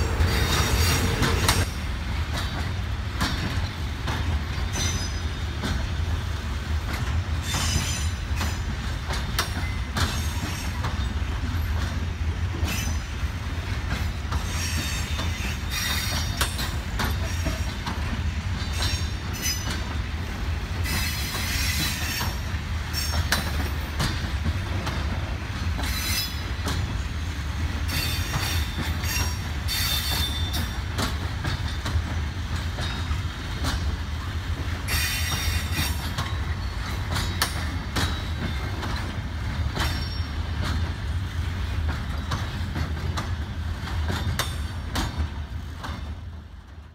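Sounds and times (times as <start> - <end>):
freight train wagons rolling: 0.0 - 46.9
wheels clacking over rail joints: 0.0 - 46.9.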